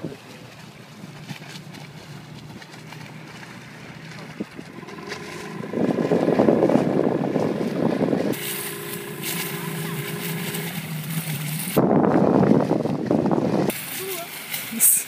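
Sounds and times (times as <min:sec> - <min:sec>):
outboard boat motor running: 0:00.0 - 0:15.0
wind on microphone: 0:01.2 - 0:13.9.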